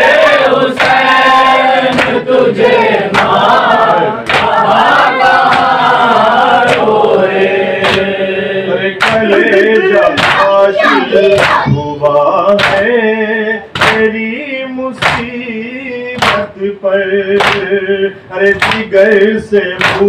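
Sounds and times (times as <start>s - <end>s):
men chanting in unison: 0.0s - 20.0s.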